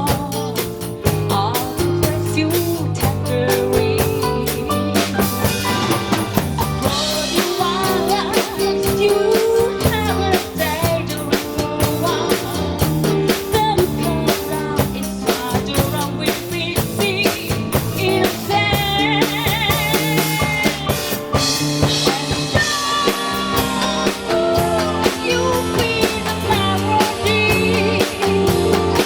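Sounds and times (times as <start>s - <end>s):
bass and chords: 0.0s - 29.0s
drum kit beat: 0.0s - 29.0s.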